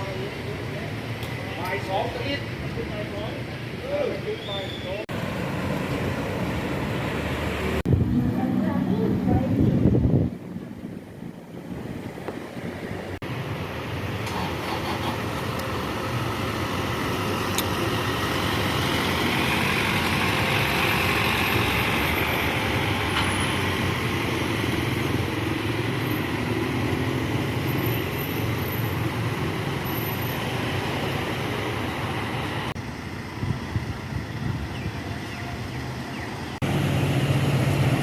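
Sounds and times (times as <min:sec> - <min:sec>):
traffic noise: 0:00.0 - 0:38.0
bus engine running: 0:05.1 - 0:38.0.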